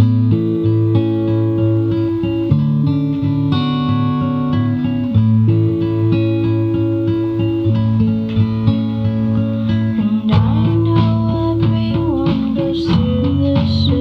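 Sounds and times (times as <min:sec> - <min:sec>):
music with plucked guitar: 0:00.0 - 0:14.0.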